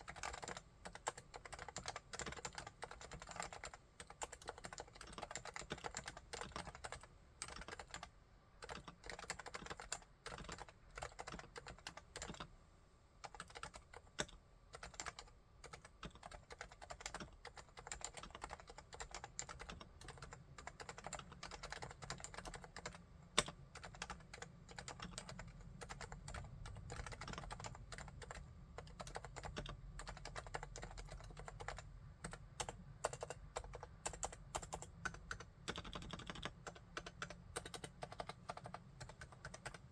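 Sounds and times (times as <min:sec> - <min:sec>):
quiet keyboard typing: 0:00.0 - 0:12.6, 0:13.2 - 0:39.9.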